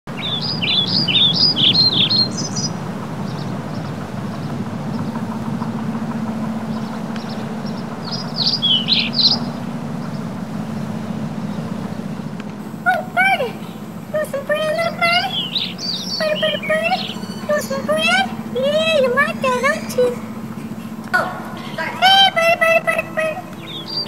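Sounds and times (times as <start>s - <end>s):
small bird chirping: 0.1s - 5.3s, 6.6s - 24.0s
low background rumble: 0.1s - 24.0s.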